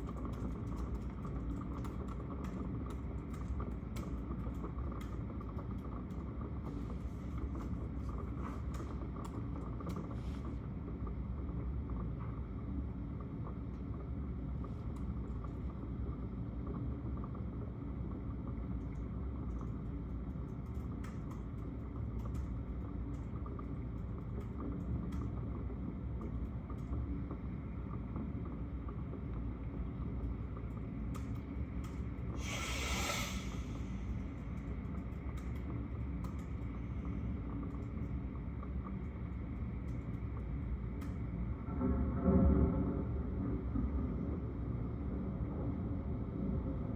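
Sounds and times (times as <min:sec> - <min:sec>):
low rumbling background noise: 0:00.0 - 0:46.9.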